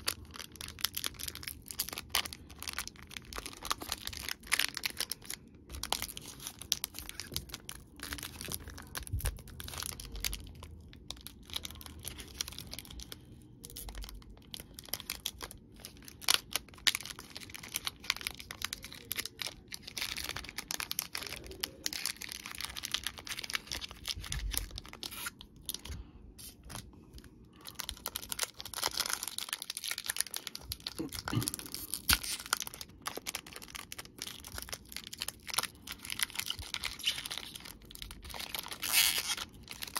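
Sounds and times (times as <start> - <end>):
foil wrappers crinkling and tearing: 0.0 - 39.9.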